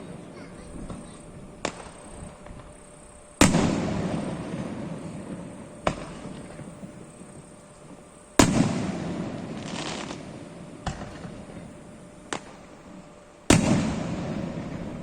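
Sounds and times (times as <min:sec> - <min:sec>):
sharp firework crack: 0:00.0 - 0:02.6, 0:03.4 - 0:07.6, 0:08.4 - 0:12.9, 0:13.5 - 0:15.0
firework booms with rumbling echo: 0:00.0 - 0:02.8, 0:03.4 - 0:15.0.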